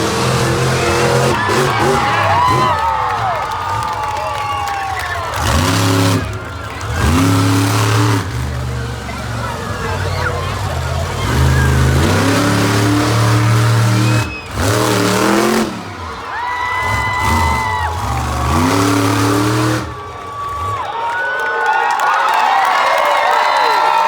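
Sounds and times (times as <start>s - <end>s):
monster truck engine revving: 0.0s - 21.1s.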